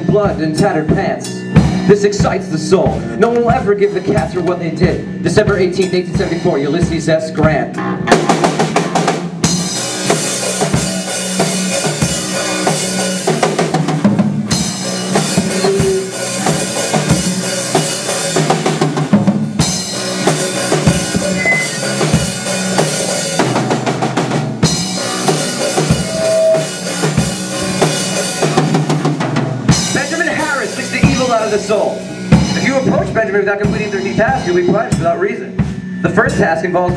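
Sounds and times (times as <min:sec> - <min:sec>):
instrumental band music: 0:00.0 - 0:36.9.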